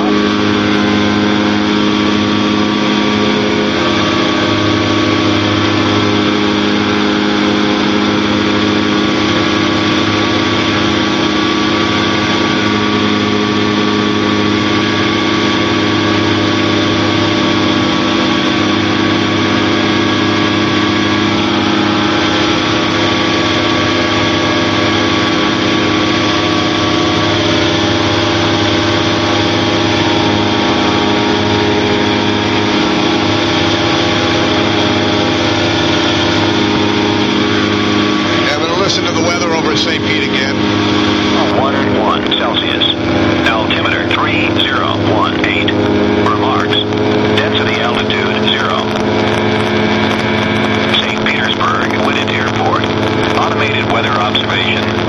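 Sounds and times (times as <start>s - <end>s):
light aircraft engine and propeller: 0.0s - 55.0s.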